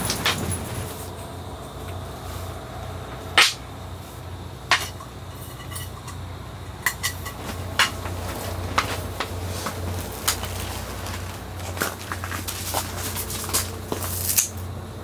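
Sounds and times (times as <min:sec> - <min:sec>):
gas burner low rumble: 0:00.0 - 0:15.0.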